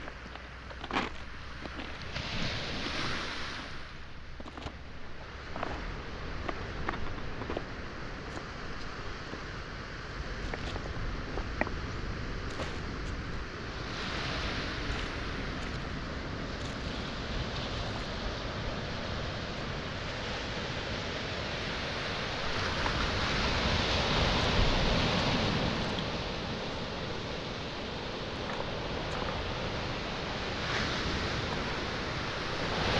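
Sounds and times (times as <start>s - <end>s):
waves washing onto pebbles: 0.0s - 32.9s.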